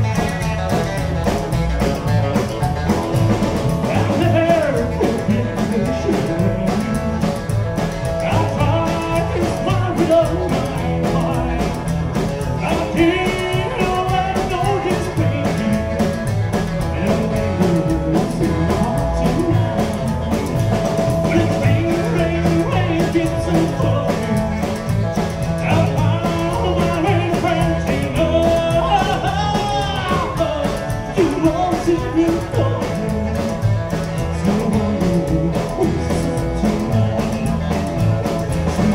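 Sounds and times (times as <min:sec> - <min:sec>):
acoustic guitar: 0:00.0 - 0:38.9
drum kit: 0:00.0 - 0:38.9
electric guitar: 0:00.0 - 0:38.9
upright bass: 0:00.0 - 0:38.9
man singing lead: 0:03.2 - 0:38.9.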